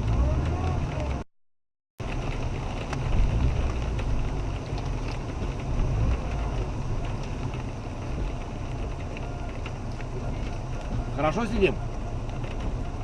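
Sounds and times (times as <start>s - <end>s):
engine running low rumble: 0.0s - 1.2s, 2.0s - 13.0s.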